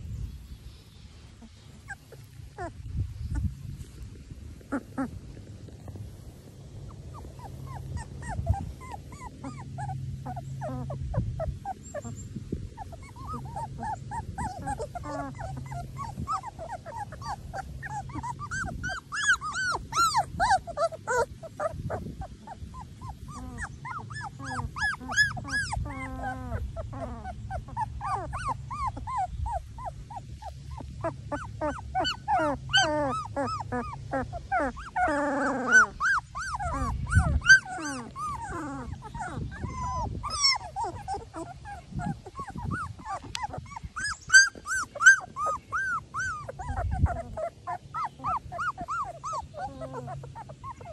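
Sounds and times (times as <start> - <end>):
puppies whimpering and squeaking: 1.4 - 50.9.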